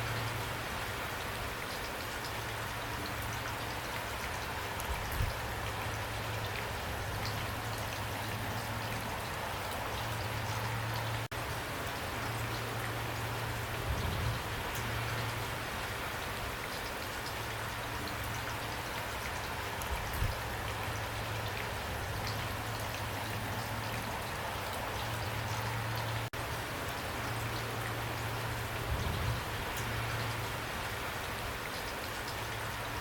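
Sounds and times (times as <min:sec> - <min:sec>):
raindrops ticking: 0:00.0 - 0:33.0
steady rain hiss: 0:00.0 - 0:33.0.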